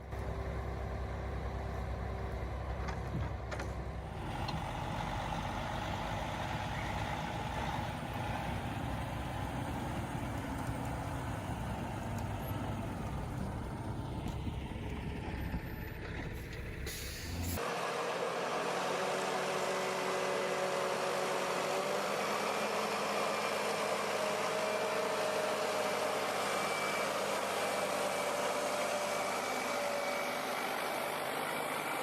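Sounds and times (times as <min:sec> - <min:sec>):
heavy machine engine running: 0:00.0 - 0:32.0.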